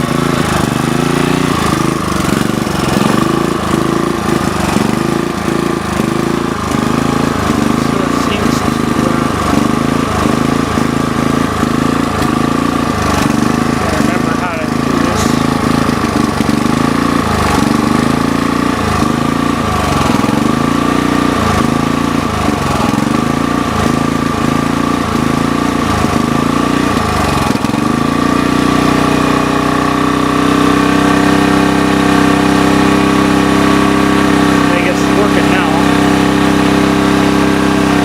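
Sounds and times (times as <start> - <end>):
generator engine pulsing: 0.0 - 38.0.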